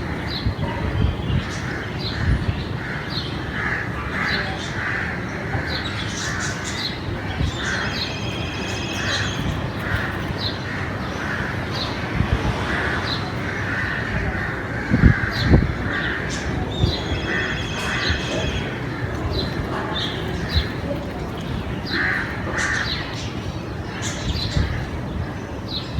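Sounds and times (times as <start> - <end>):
small birds chirping: 0.2 - 12.0, 12.7 - 25.9
crows cawing: 1.6 - 11.8, 12.6 - 24.9.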